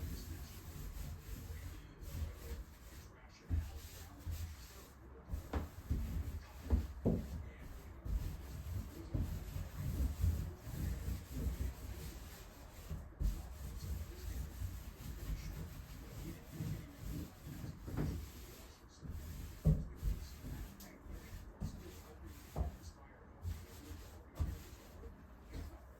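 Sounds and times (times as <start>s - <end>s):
scrubbing a bathtub: 0.0s - 25.9s.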